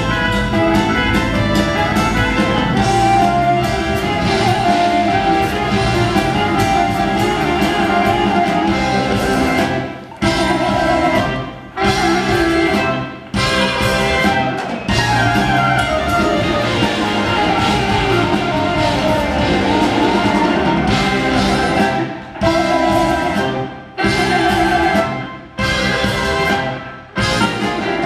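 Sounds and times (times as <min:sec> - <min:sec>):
live progressive rock band: 0:00.0 - 0:28.0.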